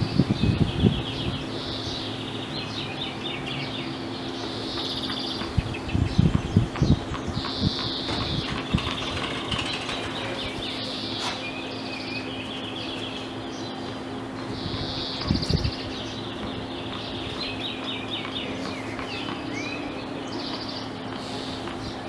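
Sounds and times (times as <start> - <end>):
birds chirping and trilling: 0.0 - 22.0
steady low hum: 0.0 - 22.0.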